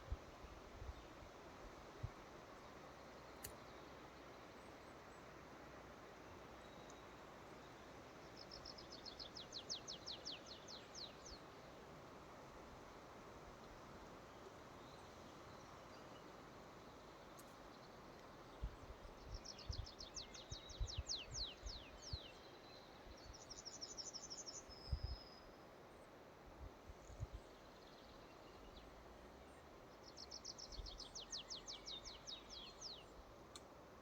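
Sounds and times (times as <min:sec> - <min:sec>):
songbird singing faintly: 0:00.0 - 0:34.0.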